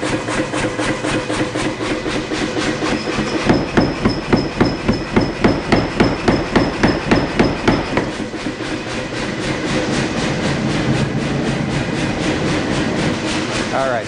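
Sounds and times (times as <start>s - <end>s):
hammer striking hot metal: 0.0s - 14.0s
steady rushing background: 0.0s - 14.0s.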